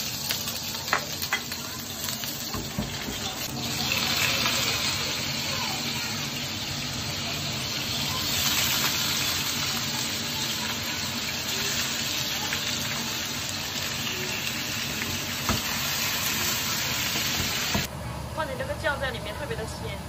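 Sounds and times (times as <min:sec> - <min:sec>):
octopus sizzling in a wok: 0:00.0 - 0:18.6.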